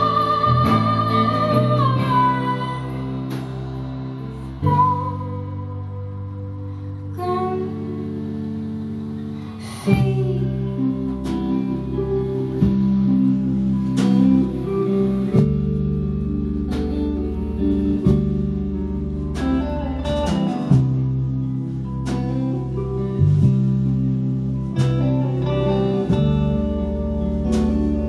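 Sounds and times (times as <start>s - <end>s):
live rock band instrumental: 0.0s - 28.0s.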